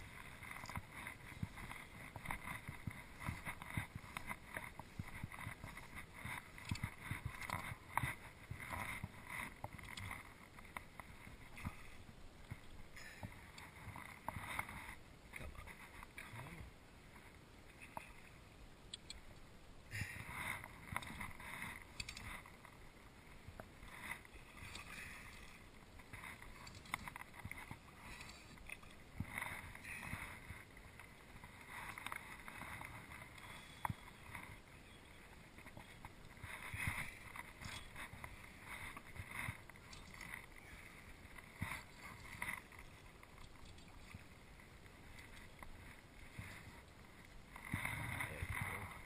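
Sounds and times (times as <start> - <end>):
fishing line rustling: 0.0 - 16.6, 19.9 - 49.0.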